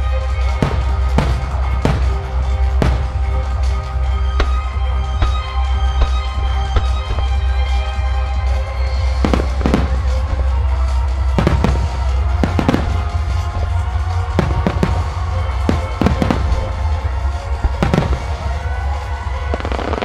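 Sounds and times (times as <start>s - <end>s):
fireworks bursting: 0.0s - 20.0s
music: 0.0s - 20.0s.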